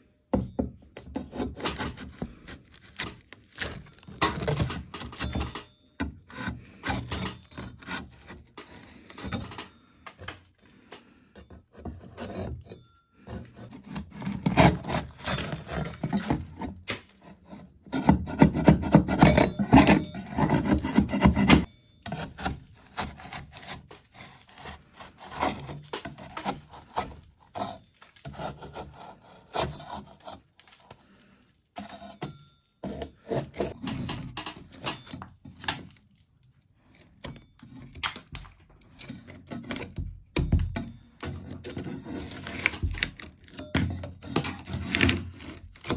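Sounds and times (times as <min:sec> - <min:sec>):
metal spatula scraping a wall: 0:00.9 - 0:36.0, 0:38.9 - 0:40.1, 0:40.8 - 0:45.9.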